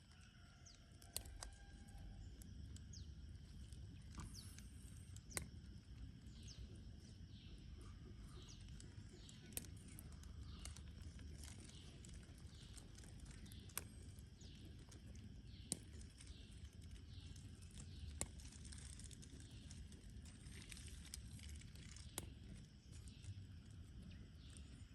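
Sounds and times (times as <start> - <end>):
low steady rumble: 0.0 - 24.9.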